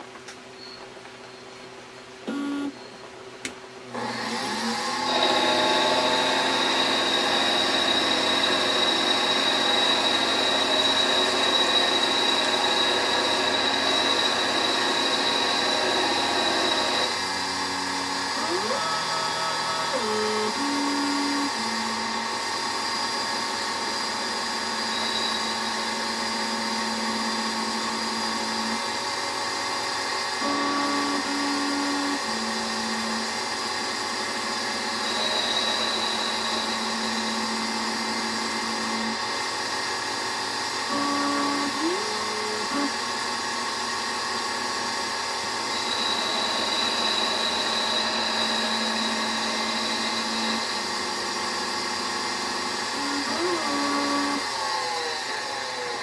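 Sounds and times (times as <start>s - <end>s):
lathe machine whine: 3.9s - 56.0s.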